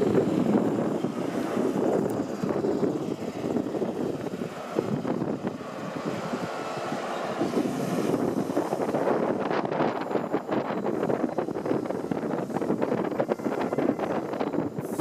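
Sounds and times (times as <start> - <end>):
diesel train engine rumbling: 0.0 - 15.0.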